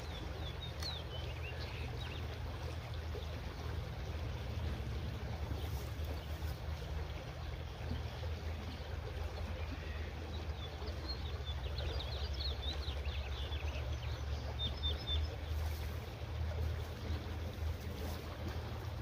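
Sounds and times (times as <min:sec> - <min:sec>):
small creek flowing: 0:00.0 - 0:19.0
songbirds chirping: 0:00.0 - 0:19.0.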